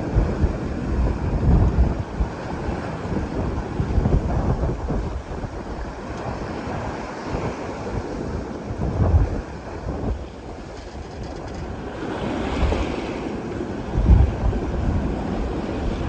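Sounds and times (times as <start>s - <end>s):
bow wave rushing along hull: 0.0s - 16.0s
wind gusting on microphone: 0.0s - 16.0s.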